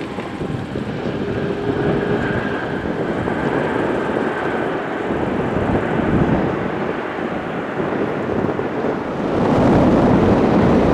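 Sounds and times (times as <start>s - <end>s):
jet airliner engines rumbling: 0.0s - 10.9s.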